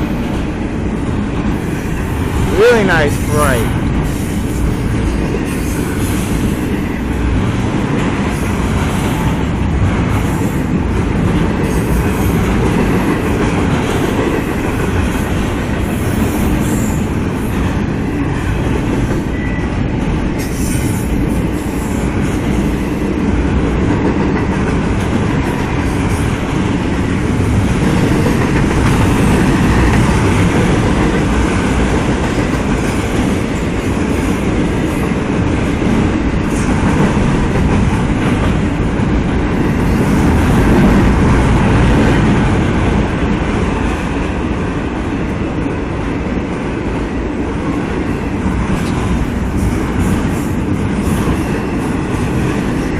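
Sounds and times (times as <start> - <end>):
freight train wheels rumbling on rail: 0.0 - 52.9.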